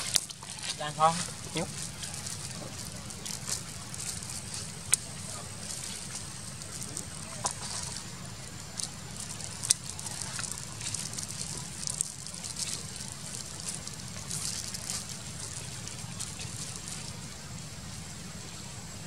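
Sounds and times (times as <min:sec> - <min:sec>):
high flickering hiss: 0:00.0 - 0:19.0
low steady rumble: 0:00.0 - 0:19.0.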